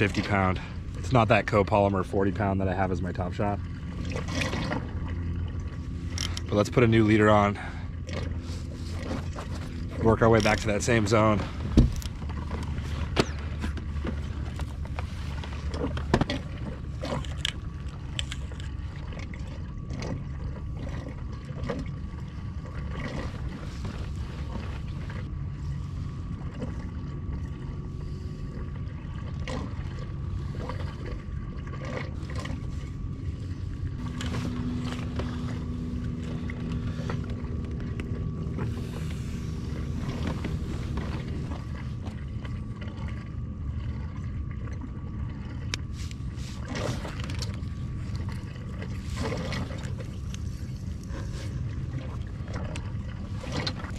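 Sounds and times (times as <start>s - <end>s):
low background rumble: 0.0s - 53.9s.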